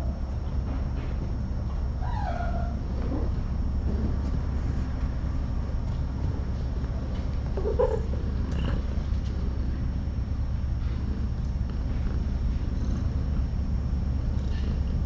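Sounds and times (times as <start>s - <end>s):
cat purring: 2.7s - 15.0s.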